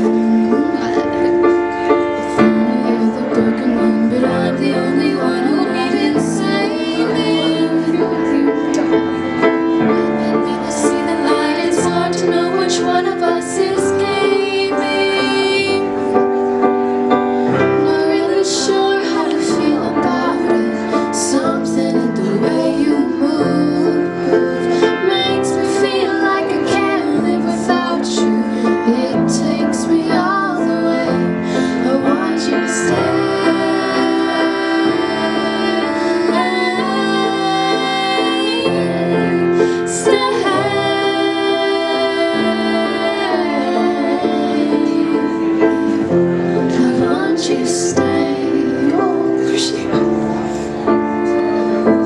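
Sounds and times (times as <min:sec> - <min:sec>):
woman singing slow song: 0:00.0 - 0:16.2, 0:17.6 - 0:50.2
grand piano accompaniment: 0:00.0 - 0:52.0.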